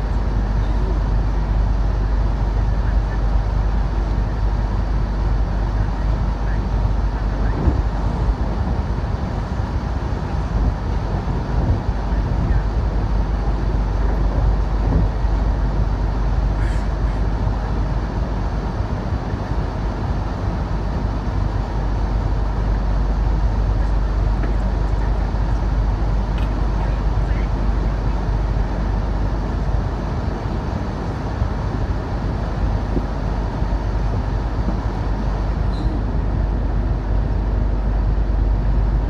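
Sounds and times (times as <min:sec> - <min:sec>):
train rumbling inside passenger car: 0:00.0 - 0:39.0.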